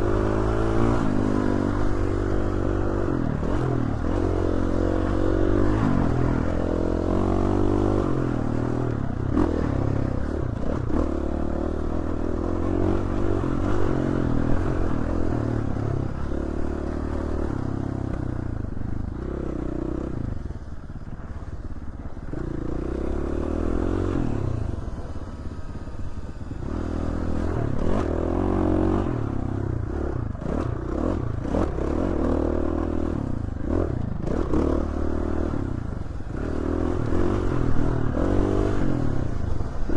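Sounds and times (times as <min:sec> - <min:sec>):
dirt bike engine revving: 0:00.0 - 0:18.1, 0:22.3 - 0:25.2, 0:26.1 - 0:39.9.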